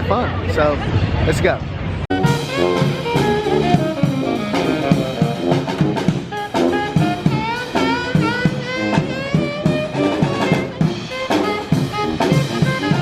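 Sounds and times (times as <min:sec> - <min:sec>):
drum kit beat: 0:02.1 - 0:13.0
saxophone and brass melody: 0:02.1 - 0:13.0.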